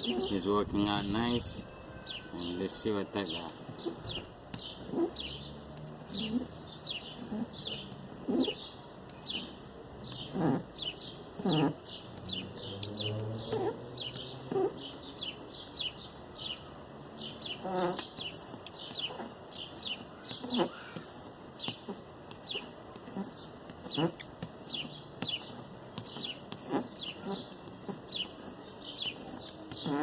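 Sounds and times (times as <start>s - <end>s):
lower bird calls: 0.0s - 30.0s
small birds chirping: 0.0s - 30.0s.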